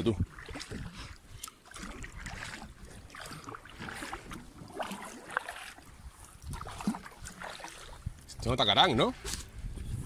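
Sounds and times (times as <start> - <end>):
waves lapping against kayak hull: 0.0 - 10.0
wind on microphone: 0.0 - 10.0.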